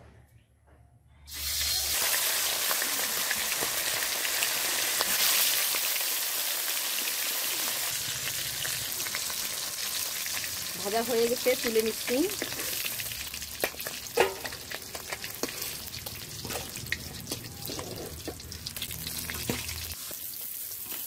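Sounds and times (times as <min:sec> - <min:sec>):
fish sizzling in hot oil: 0:01.3 - 0:21.0.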